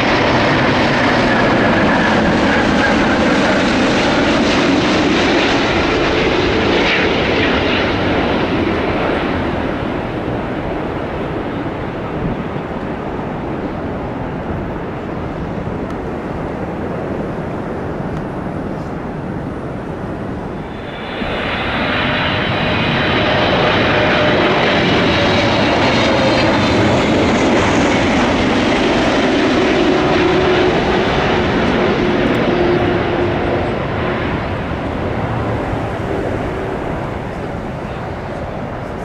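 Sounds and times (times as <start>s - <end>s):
jet engines roaring past: 0.0s - 39.0s.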